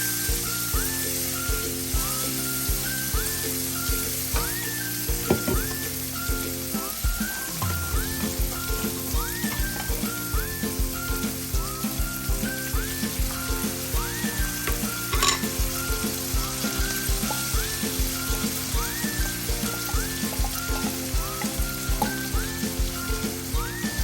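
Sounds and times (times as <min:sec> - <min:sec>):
background music with steady beat: 0:00.0 - 0:24.0
steady hiss: 0:00.0 - 0:24.0.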